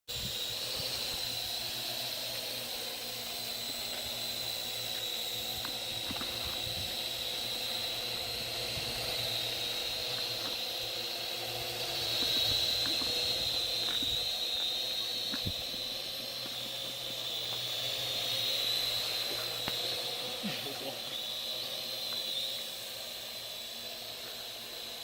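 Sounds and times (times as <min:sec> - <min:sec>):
quadcopter propellers whining: 0:00.1 - 0:25.0.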